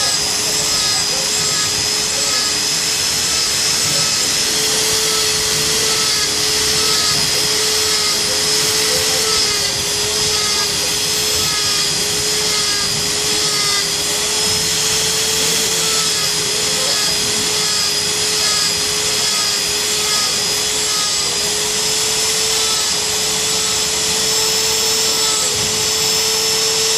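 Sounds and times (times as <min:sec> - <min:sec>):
gear teeth grinding whine: 0:00.0 - 0:26.9.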